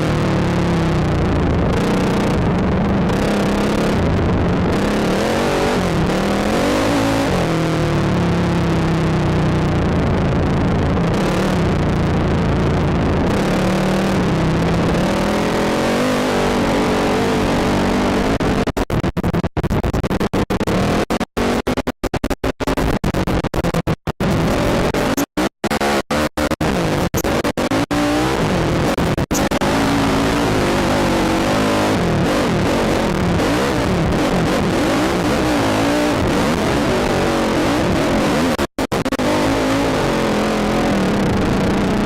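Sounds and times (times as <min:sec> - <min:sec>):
quad engine revving: 0:00.0 - 0:18.7, 0:20.6 - 0:21.7, 0:23.8 - 0:42.0.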